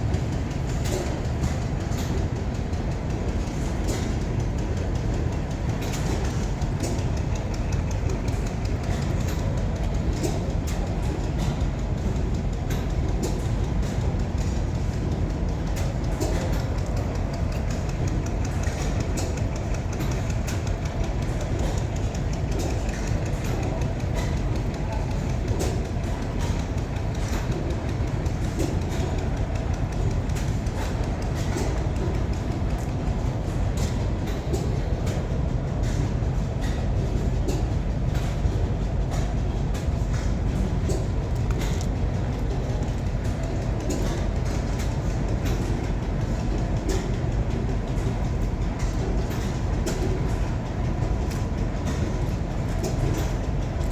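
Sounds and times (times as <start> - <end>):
engine low rumble: 0.0 - 53.9
sharp engine clicks: 0.0 - 53.9.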